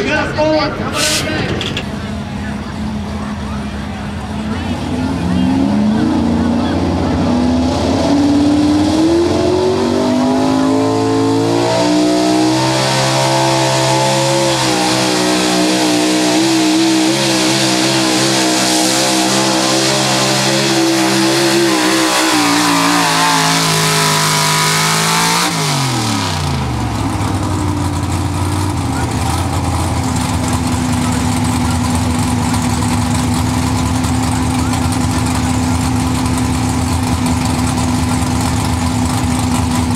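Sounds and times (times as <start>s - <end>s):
truck engine at high revs: 0.0s - 39.9s.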